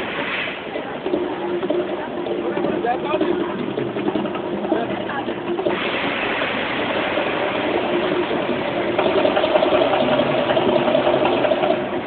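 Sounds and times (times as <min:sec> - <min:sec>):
volcano show rumbling roar: 0:00.0 - 0:12.0.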